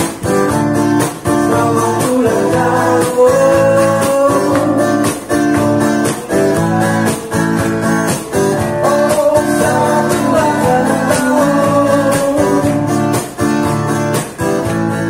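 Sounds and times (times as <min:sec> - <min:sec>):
strummed guitar chords: 0:00.0 - 0:15.0.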